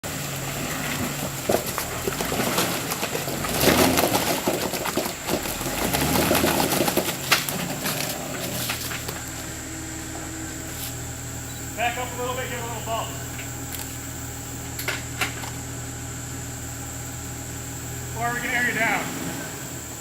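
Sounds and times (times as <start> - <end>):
rough noise: 0.0 - 15.6, 16.6 - 20.0
engine running low: 0.0 - 20.0.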